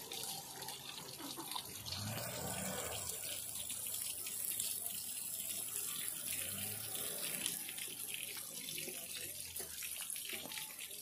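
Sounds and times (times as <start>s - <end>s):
water splashing onto concrete: 0.0s - 11.0s.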